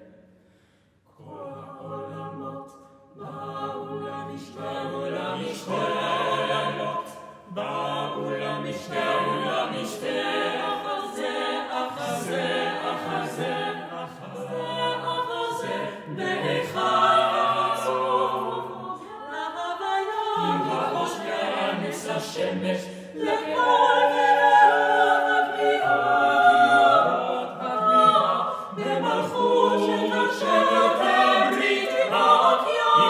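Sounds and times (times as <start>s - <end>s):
mixed choir singing unaccompanied: 1.1s - 33.0s.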